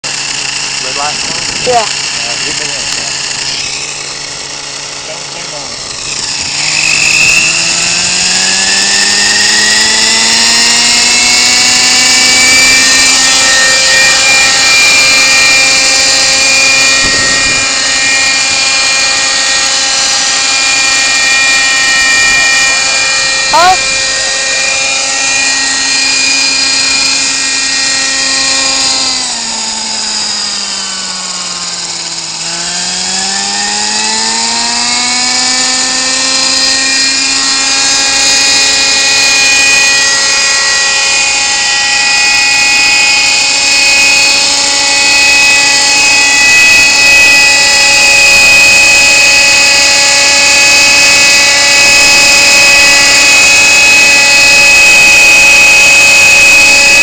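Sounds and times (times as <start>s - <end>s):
model helicopter engine buzzing: 0.0s - 57.0s.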